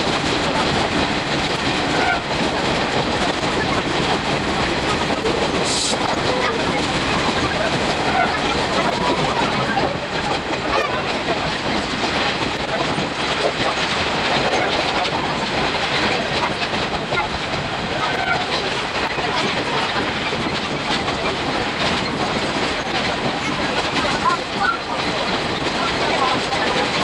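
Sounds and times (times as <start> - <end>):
train rail rumble: 0.0 - 27.0.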